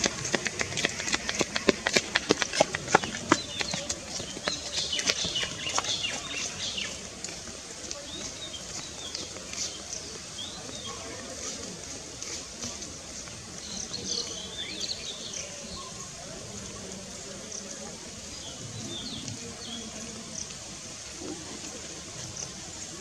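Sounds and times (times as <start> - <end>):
background hiss: 0.0 - 23.0.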